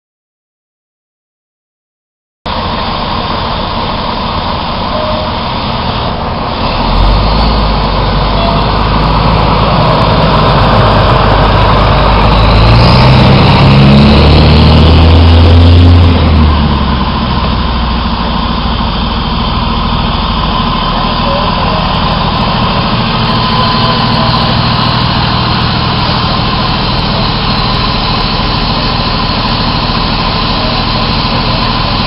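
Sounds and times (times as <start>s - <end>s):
diesel engine rumbling and revving: 2.5s - 32.0s.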